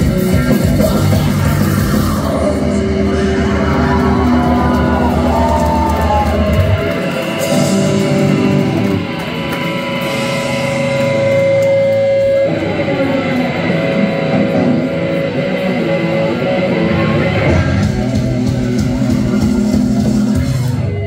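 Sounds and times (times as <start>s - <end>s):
electric guitar strumming: 0.0s - 21.0s
punk band playing: 0.0s - 21.0s.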